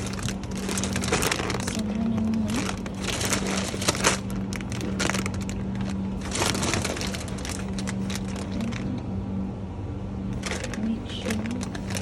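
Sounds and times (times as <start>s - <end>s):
crinkling and clicking from handling: 0.0s - 9.0s, 10.4s - 12.0s
steady low hum: 0.0s - 12.0s.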